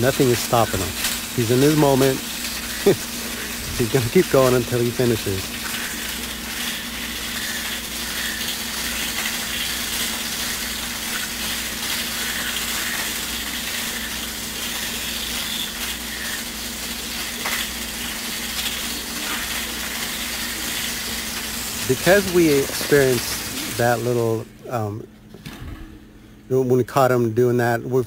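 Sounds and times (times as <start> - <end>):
aquarium filter and pump running: 0.0 - 28.0.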